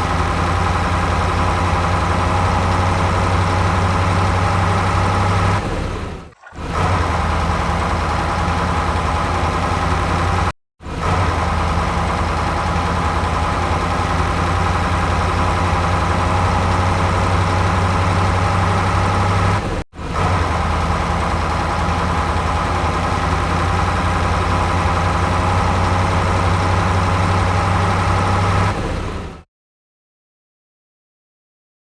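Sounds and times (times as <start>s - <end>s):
vehicle engine idling: 0.0s - 29.4s.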